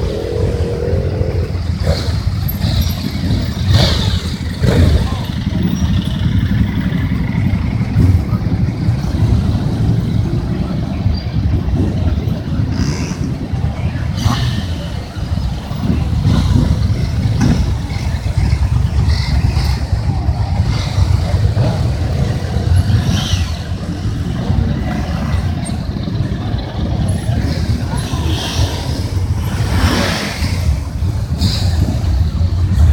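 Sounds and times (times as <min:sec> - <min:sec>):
motorcycle engines rumbling: 0:00.0 - 0:32.9.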